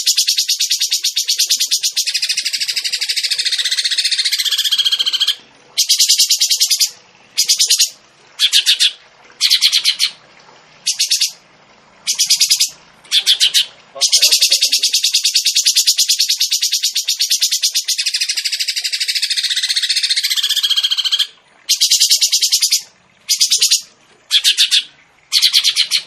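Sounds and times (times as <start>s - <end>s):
songbird rattling trill: 0.0s - 10.1s, 10.9s - 11.4s, 12.1s - 23.8s.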